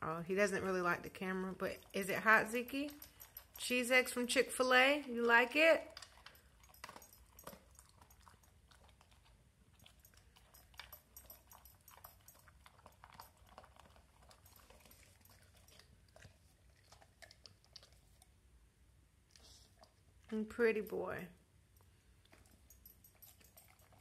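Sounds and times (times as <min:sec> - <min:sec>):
dog chewing wet food: 0:00.6 - 0:18.4, 0:21.8 - 0:24.0.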